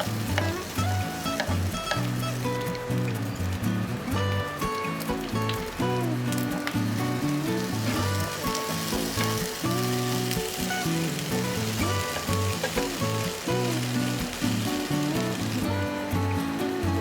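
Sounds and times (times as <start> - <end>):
background music: 0.0 - 17.0
food sizzling in a frying pan: 0.0 - 17.0.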